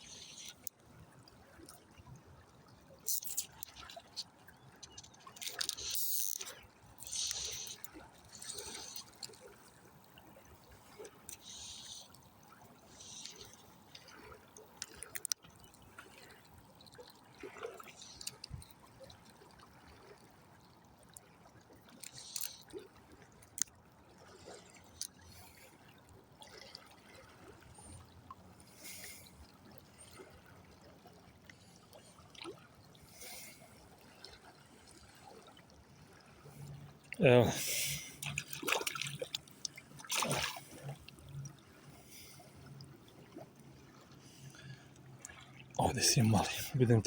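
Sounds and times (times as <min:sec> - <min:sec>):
river water trickling: 0:00.0 - 0:47.0.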